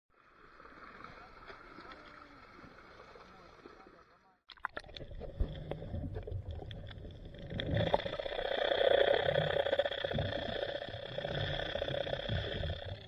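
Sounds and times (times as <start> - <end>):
boat engine drone underwater: 0.1 - 13.0
low water rumble: 0.1 - 13.0.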